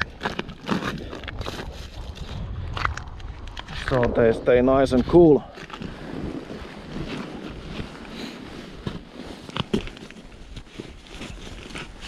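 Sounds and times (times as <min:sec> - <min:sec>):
ice and snow crunching: 0:00.0 - 0:12.0.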